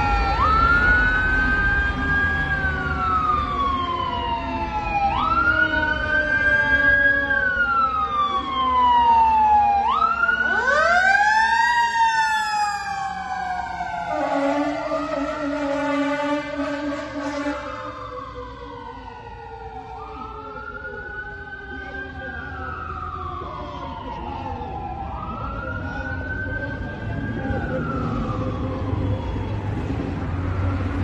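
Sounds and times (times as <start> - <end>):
fire engine siren wailing: 0.0 - 31.0.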